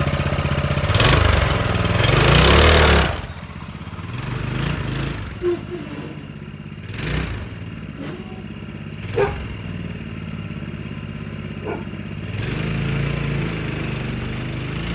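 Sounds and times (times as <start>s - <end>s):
small engine idling: 0.0s - 14.9s.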